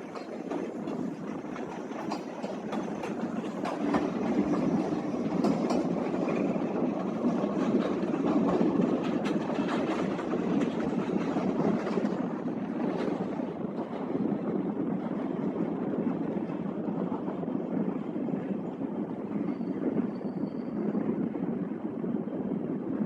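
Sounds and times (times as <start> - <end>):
train rumbling on rails: 0.0 - 23.0.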